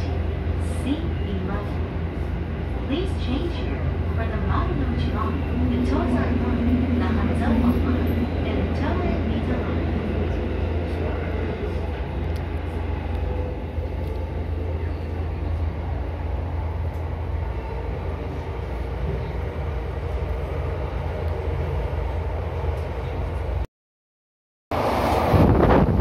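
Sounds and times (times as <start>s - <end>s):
train rumble inside car: 0.0s - 23.6s.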